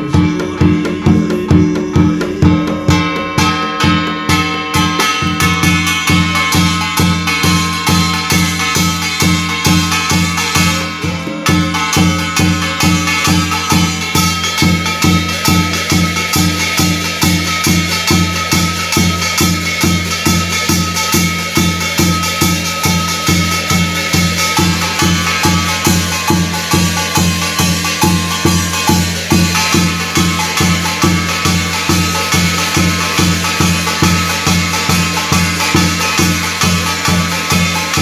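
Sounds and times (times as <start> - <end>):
barrel drum beaten with a stick: 0.0 - 38.0
held higher tone: 0.0 - 38.0.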